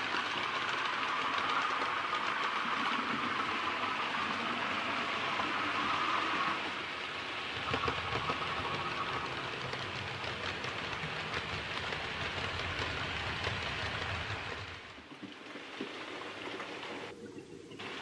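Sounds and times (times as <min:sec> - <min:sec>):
model train wheels clattering: 0:00.0 - 0:15.0.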